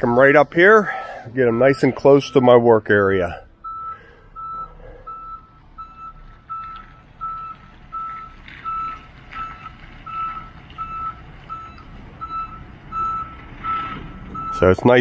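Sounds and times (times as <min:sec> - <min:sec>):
truck engine running low: 0:00.0 - 0:15.0
truck reverse alarm beeping: 0:00.0 - 0:15.0.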